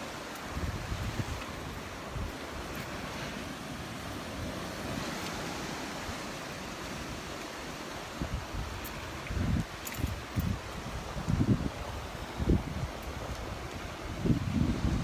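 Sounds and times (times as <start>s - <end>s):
ocean surf washing ashore: 0.0s - 15.0s
wind buffeting microphone: 0.0s - 15.0s.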